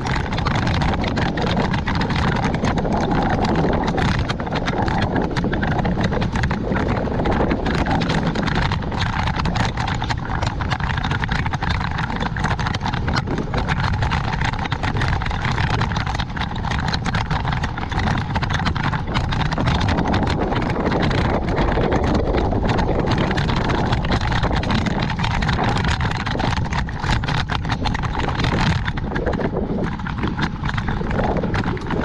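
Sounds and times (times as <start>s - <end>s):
bicycle clicking and rattling: 0.0s - 32.0s
tyres rumbling on road: 0.0s - 32.0s
wind on microphone: 0.0s - 32.0s.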